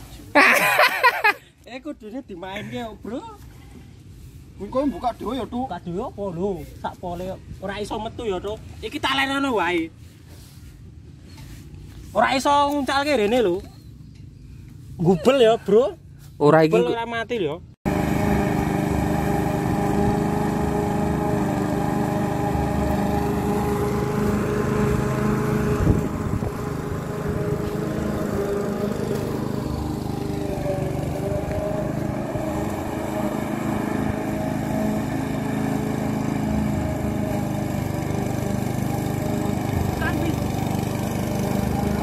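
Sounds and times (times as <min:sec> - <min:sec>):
lawn mower engine cutting grass: 0:02.4 - 0:15.2, 0:17.8 - 0:42.0.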